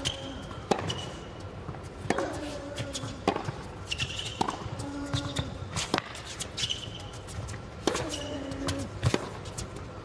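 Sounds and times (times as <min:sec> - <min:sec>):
shoes squeaking on hard court: 0:00.0 - 0:10.0
tennis racket hitting ball: 0:00.1 - 0:06.6, 0:07.8 - 0:09.5.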